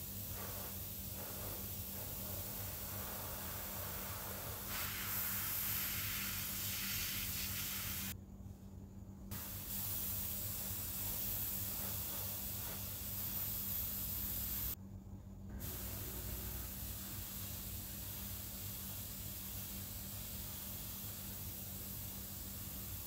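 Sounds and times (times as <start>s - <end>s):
paint spray hissing: 0.0s - 8.2s, 9.3s - 14.8s, 15.6s - 23.0s.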